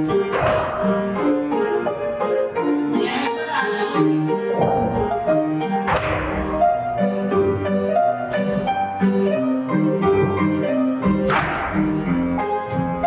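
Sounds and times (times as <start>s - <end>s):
piano tune with steady beat: 0.0s - 13.0s.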